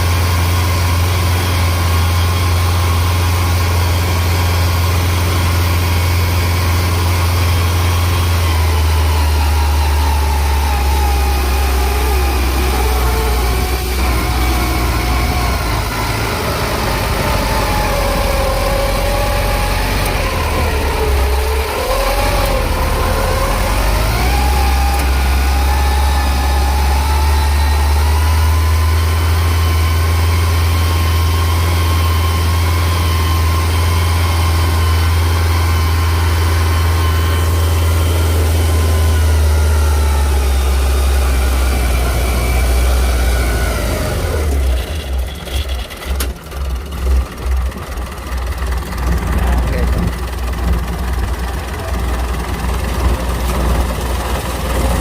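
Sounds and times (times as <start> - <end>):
harvesting machine engine running: 0.0 - 55.0.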